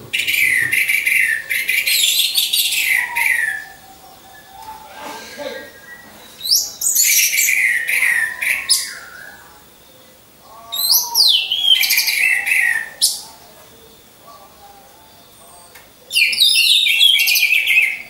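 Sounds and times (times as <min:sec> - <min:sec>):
thrush singing: 0:00.0 - 0:18.0.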